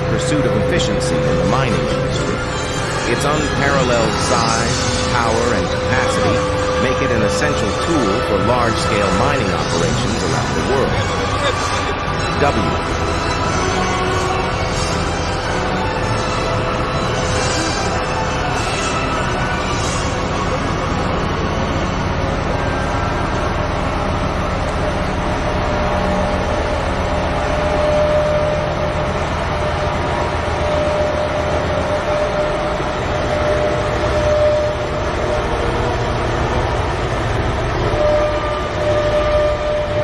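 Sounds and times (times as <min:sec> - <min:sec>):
diesel truck engines rumbling: 0:00.0 - 0:40.0
high steady tone: 0:00.0 - 0:40.0.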